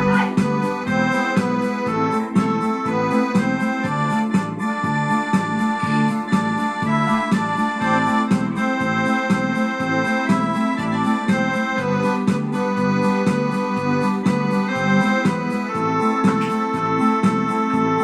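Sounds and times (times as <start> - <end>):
organ-like keyboard melody: 0.0 - 18.0
pulsing bass and chords: 0.0 - 18.0.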